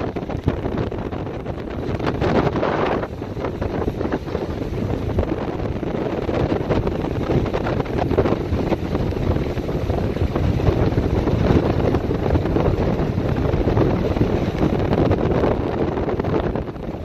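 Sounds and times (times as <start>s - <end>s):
waves washing against seawall: 0.0s - 17.0s
wind buffeting microphone: 0.0s - 17.0s.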